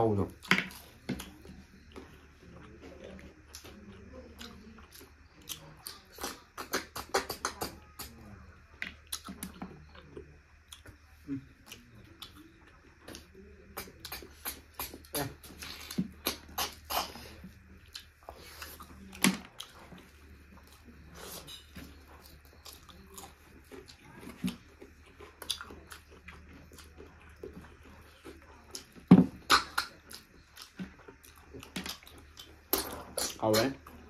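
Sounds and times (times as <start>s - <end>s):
person chewing with mouth noises: 0.2s - 34.0s.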